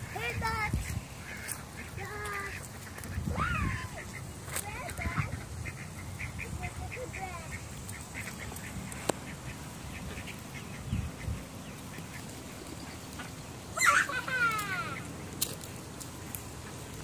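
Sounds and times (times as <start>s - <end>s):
ducks quacking: 0.0s - 15.3s.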